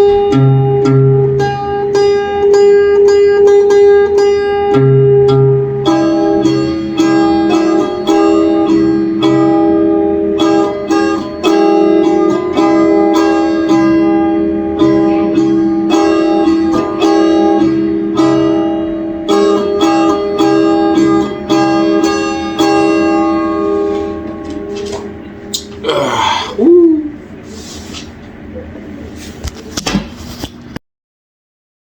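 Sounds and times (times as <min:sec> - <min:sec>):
plucked string instrument music: 0:00.0 - 0:25.8.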